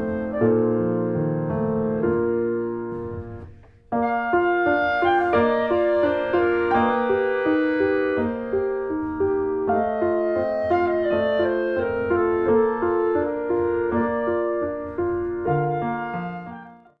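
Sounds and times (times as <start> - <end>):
keyboard melody: 0.0 - 17.0.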